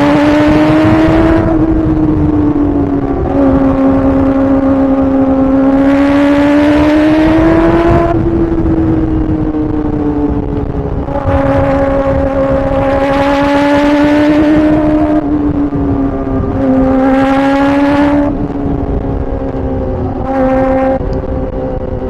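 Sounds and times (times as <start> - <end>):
motorcycle engine at high revs: 0.0 - 22.0
wind noise: 0.0 - 22.0.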